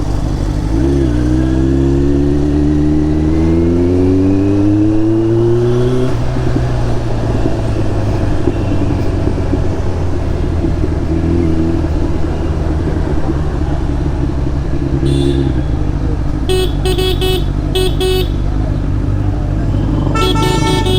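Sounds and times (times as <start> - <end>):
motorcycle engine cruising: 0.0 - 20.9.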